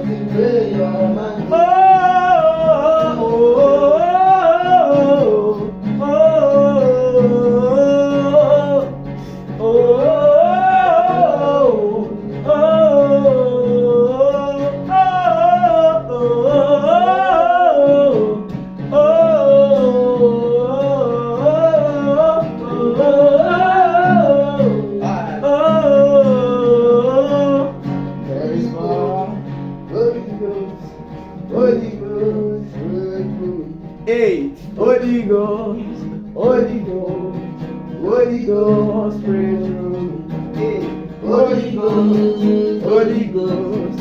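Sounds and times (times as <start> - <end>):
person singing wordless phrases: 0.0 - 44.0.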